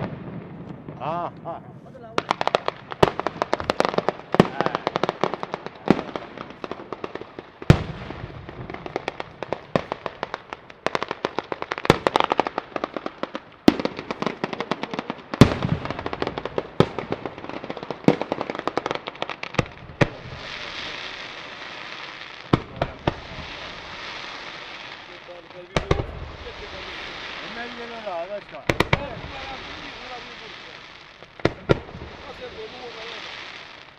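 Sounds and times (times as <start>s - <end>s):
firecracker bangs and crackling: 0.0s - 33.9s
loud firework reports: 0.0s - 33.9s
fountain fireworks hissing: 0.9s - 33.9s.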